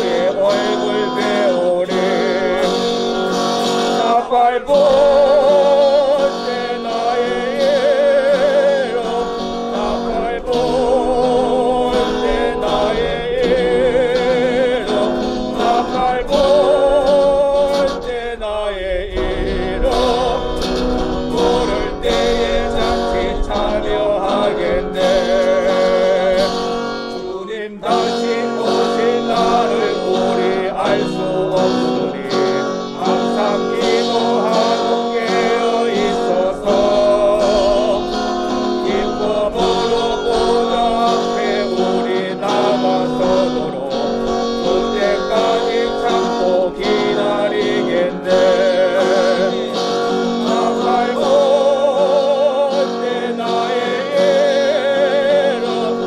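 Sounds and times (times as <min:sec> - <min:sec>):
band with guitar: 0:00.0 - 0:56.0
gospel hymn singing: 0:00.0 - 0:56.0.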